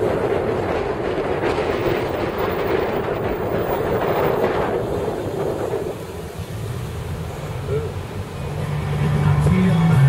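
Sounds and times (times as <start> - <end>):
road and wind noise inside car: 0.0 - 10.0.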